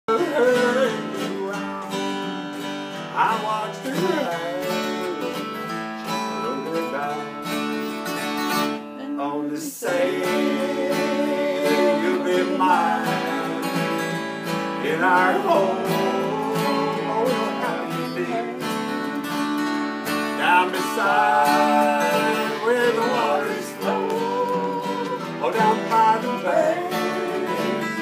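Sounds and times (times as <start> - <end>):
acoustic guitars strumming chords: 0.1 - 28.0.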